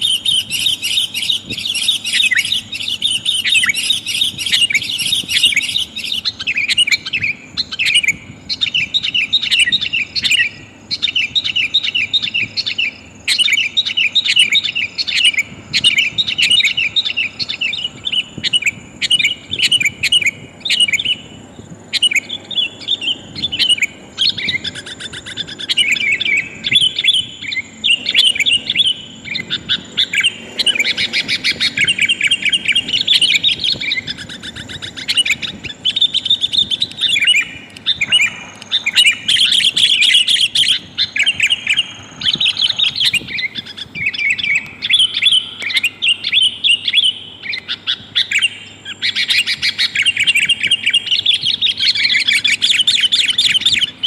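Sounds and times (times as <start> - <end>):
bulbuls chattering calls: 0.0 - 54.0.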